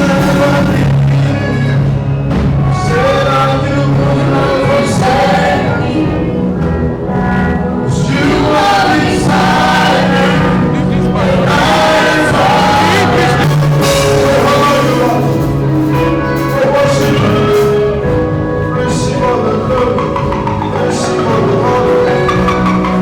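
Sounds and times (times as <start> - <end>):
gospel worship music: 0.0 - 23.0
voices singing together: 0.0 - 23.0.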